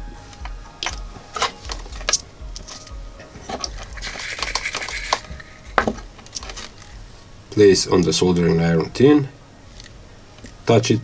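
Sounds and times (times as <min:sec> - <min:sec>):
faint low pulsing hum: 0:00.0 - 0:10.7.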